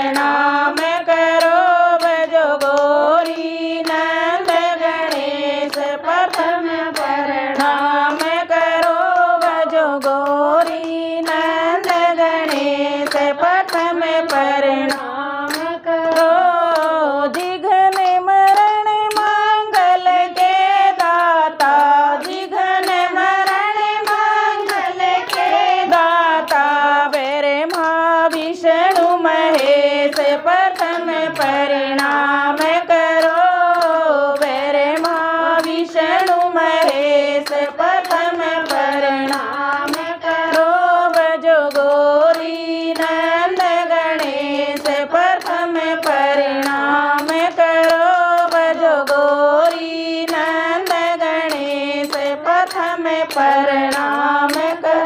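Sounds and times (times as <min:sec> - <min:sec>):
hand claps: 0:00.0 - 0:55.0
women singing together: 0:00.0 - 0:55.0.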